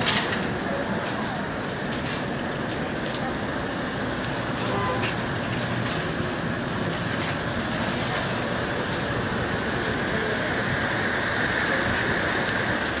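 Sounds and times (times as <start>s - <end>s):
roaster burners roaring: 0.0s - 13.0s.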